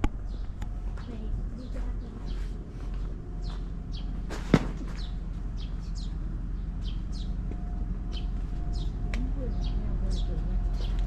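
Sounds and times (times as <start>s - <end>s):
steady low hum: 0.0s - 11.0s
small birds chirping: 0.2s - 11.0s.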